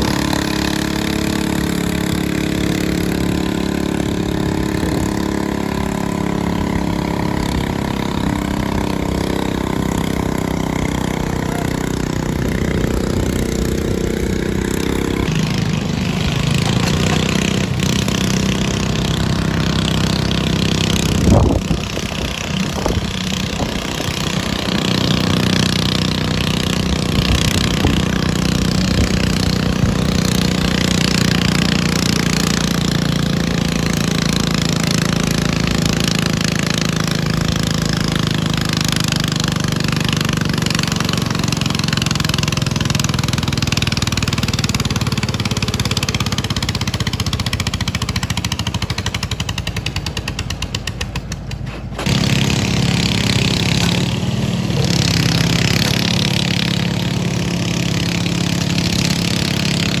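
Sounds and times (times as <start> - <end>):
steady running engine: 0.0 - 60.0
tractor engine at high throttle: 0.0 - 60.0.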